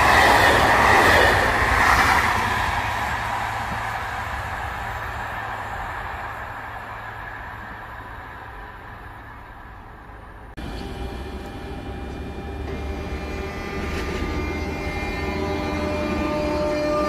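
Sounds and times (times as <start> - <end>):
train traction motors whining: 0.0 - 17.0
wheel-on-rail noise: 0.0 - 17.0.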